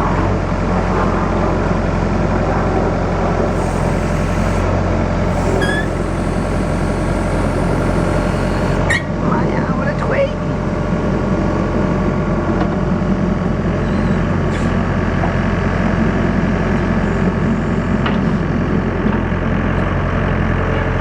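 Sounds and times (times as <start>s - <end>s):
loader engine running: 0.0s - 21.0s.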